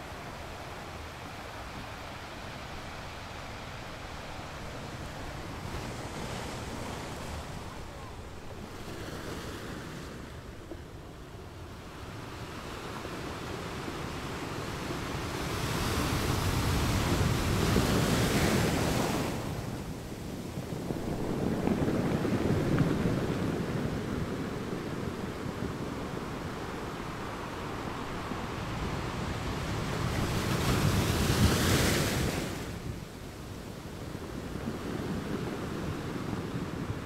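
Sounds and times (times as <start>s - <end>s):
ocean waves breaking on beach: 0.0s - 37.0s
wind on microphone: 0.0s - 37.0s.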